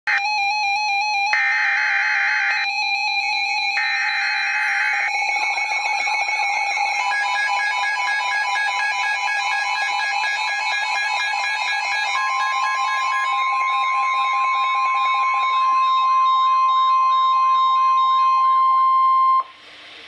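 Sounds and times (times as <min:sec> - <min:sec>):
electronic alarm tone: 0:00.1 - 0:19.5
buzzy screeching data bursts: 0:01.1 - 0:17.6
steady tone: 0:02.0 - 0:19.5.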